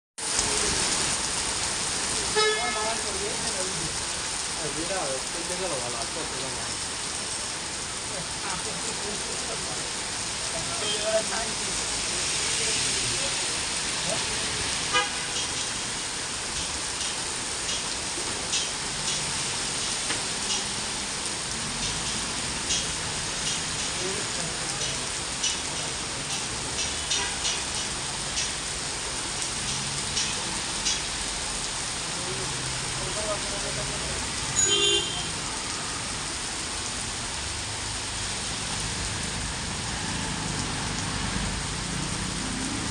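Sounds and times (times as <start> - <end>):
steady rain falling: 0.2 - 42.9.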